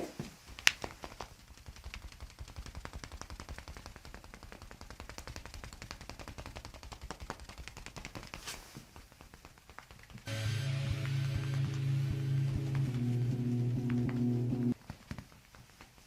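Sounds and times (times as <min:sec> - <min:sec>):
rapid tapping on a back: 0:00.4 - 0:16.0.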